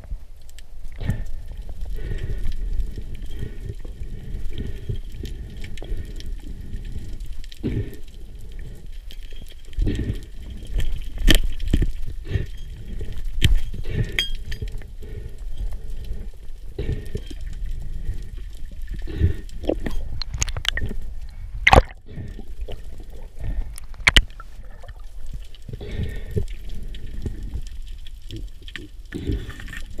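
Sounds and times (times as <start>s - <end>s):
underwater sloshing and gurgling: 0.0s - 30.0s.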